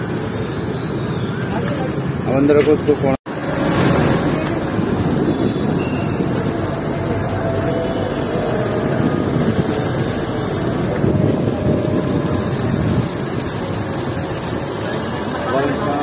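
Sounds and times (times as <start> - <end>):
low rumble of urban background: 0.0 - 16.0.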